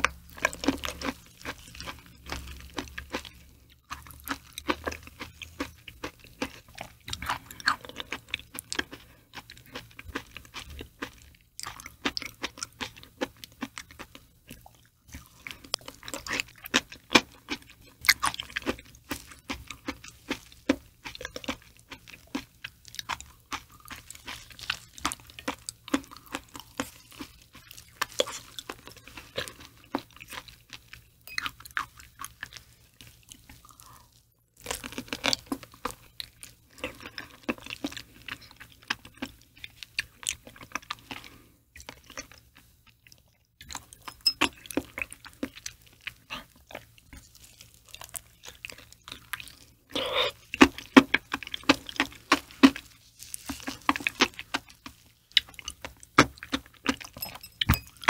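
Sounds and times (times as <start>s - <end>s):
wet chewing sounds: 0.0s - 58.0s.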